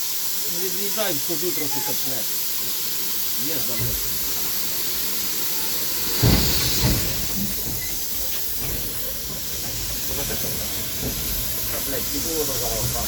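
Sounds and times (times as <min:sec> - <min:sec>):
low steam bursts: 0:00.0 - 0:13.0
steam hissing: 0:00.0 - 0:13.0.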